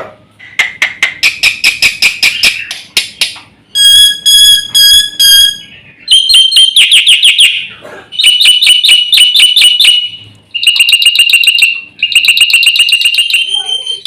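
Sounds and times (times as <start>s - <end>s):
bird singing harsh song: 1.2s - 14.0s.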